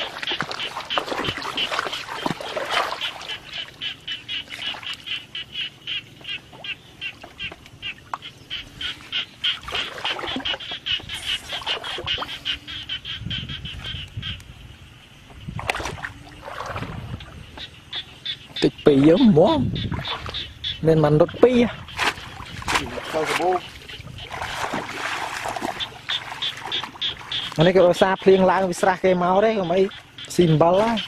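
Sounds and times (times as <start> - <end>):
water splashing: 0.0 - 12.7, 15.4 - 31.0
frog calling in rapid pulses: 0.0 - 31.0.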